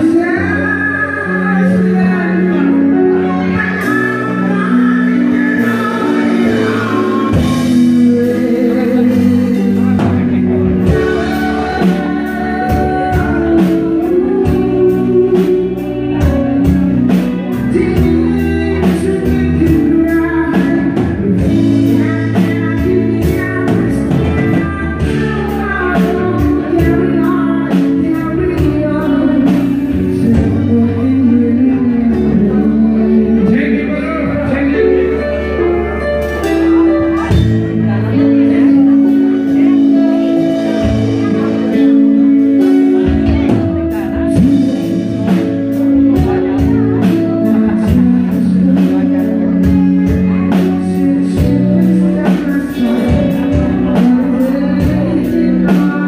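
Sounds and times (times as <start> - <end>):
bass guitar: 0.0 - 56.0
electric guitar: 0.0 - 56.0
person singing: 0.0 - 56.0.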